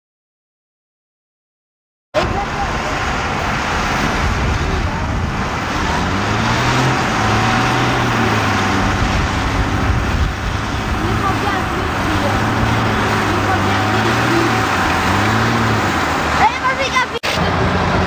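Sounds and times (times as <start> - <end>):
tractor engine running hard: 2.2 - 18.0.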